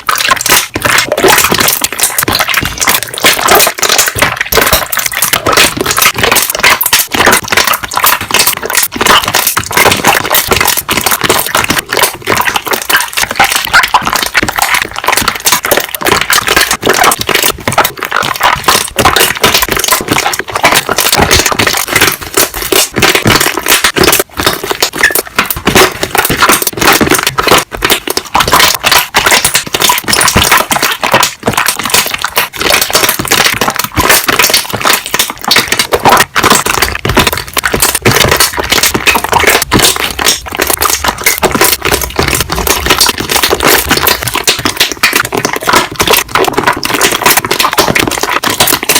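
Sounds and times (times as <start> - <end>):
slime bubbles popping: 0.0 - 48.9.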